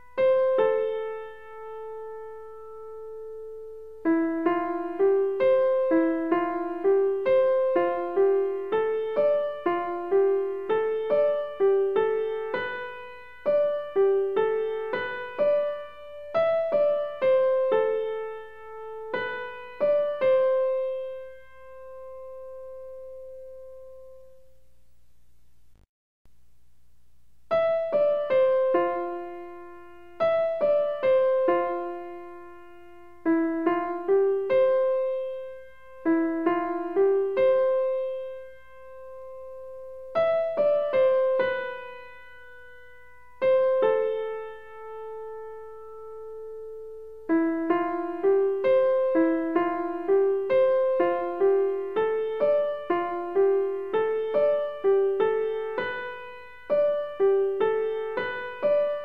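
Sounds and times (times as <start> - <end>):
slow piano melody: 0.0 - 24.8, 27.5 - 59.0.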